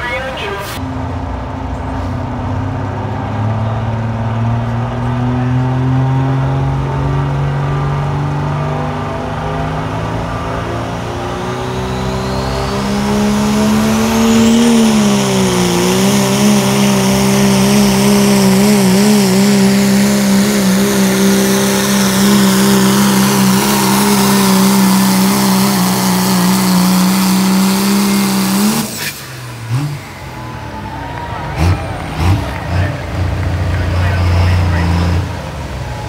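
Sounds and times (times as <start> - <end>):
diesel truck engine at full throttle: 0.0 - 36.0.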